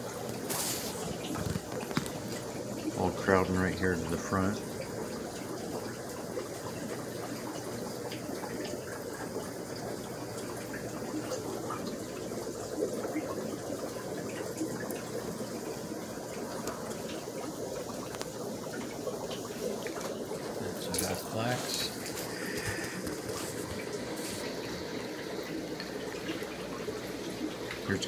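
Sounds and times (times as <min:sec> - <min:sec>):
filter water trickling and bubbling: 0:00.0 - 0:28.0.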